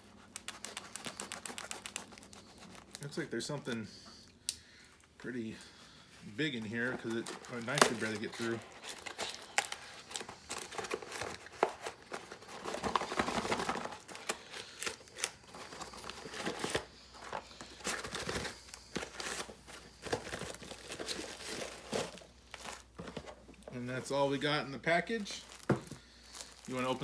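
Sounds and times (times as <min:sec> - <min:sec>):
packaging crinkling and tearing: 0:00.0 - 0:03.8, 0:06.4 - 0:23.7, 0:25.2 - 0:27.0.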